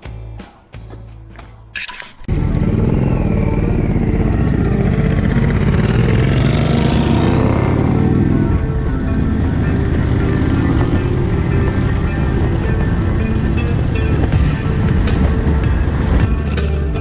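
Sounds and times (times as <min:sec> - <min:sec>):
music: 0:00.0 - 0:17.0
motorcycle engine running: 0:02.3 - 0:17.0.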